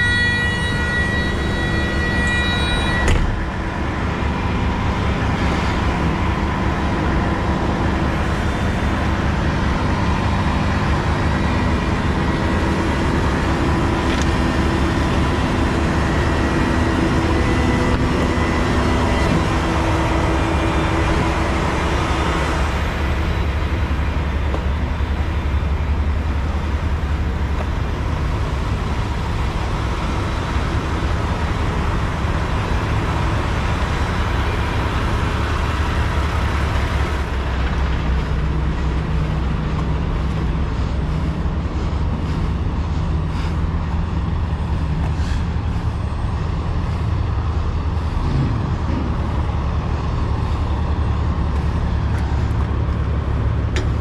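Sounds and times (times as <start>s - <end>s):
heavy diesel engine idling: 0.0s - 54.0s.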